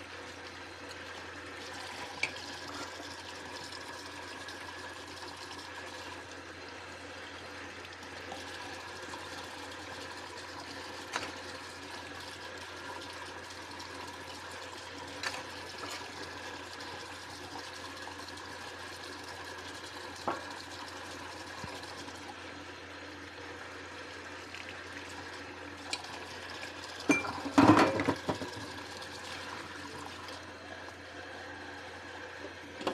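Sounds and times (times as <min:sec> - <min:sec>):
kitchen tap running into sink: 0:00.0 - 0:06.4, 0:07.0 - 0:22.7, 0:23.4 - 0:31.0.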